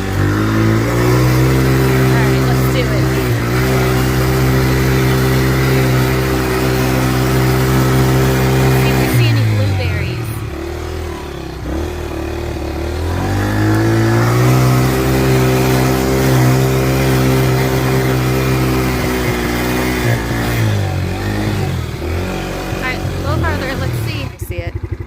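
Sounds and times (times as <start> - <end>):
small vehicle engine revving: 0.0 - 25.0.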